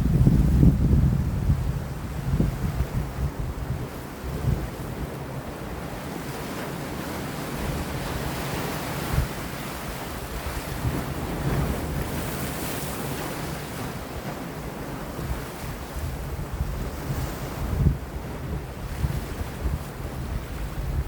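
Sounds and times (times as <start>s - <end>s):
wind buffeting microphone: 0.0s - 21.0s
surf washing against rocks: 1.6s - 21.0s.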